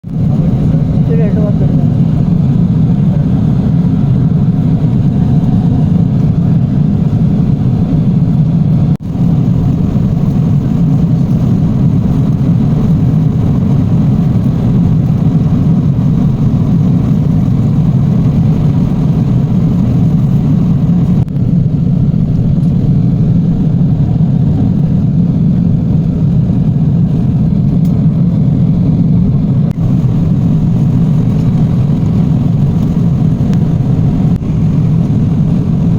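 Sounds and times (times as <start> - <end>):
airliner cabin engine rumble: 0.0 - 35.9.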